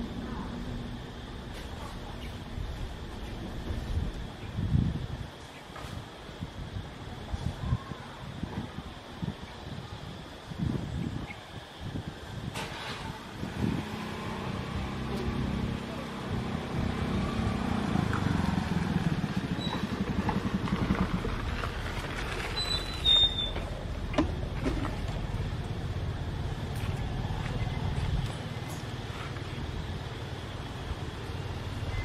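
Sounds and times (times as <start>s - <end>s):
motor engine rumbling: 0.0s - 9.4s, 10.6s - 32.0s.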